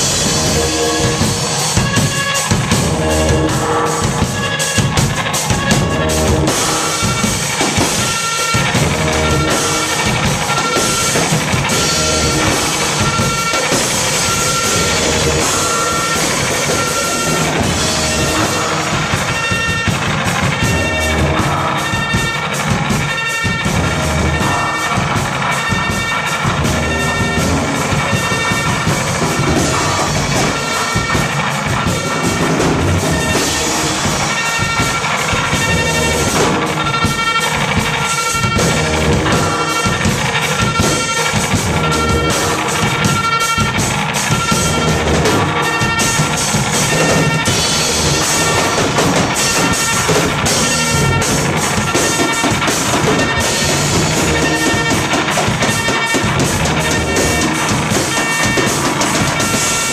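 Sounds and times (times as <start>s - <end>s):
drum hits: 0.0s - 59.9s
live band playing: 0.0s - 59.9s.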